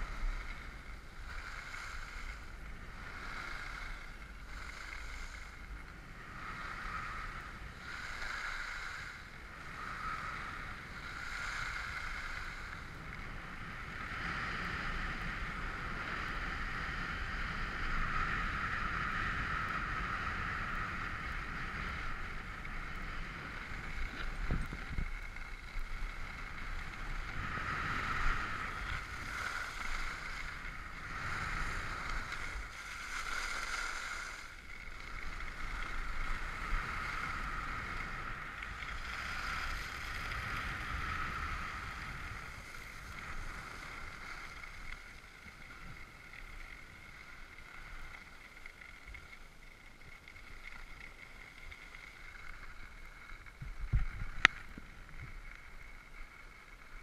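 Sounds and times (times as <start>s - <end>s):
skis sliding on snow: 0.0s - 57.0s.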